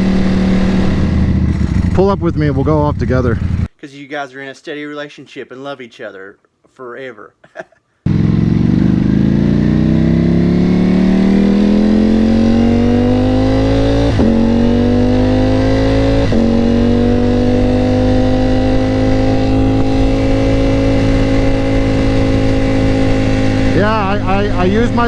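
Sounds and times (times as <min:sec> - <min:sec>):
motorcycle engine accelerating: 0:00.0 - 0:03.7, 0:08.1 - 0:25.0.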